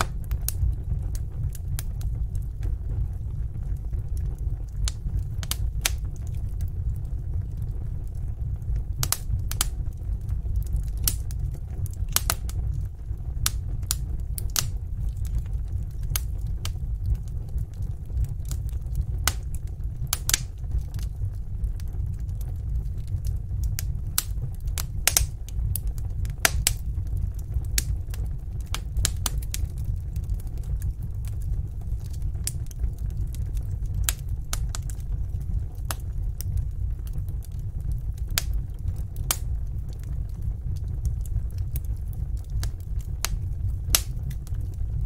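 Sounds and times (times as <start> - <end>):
fire popping and snapping: 0.0 - 45.0
low rumble of flames: 0.0 - 45.0.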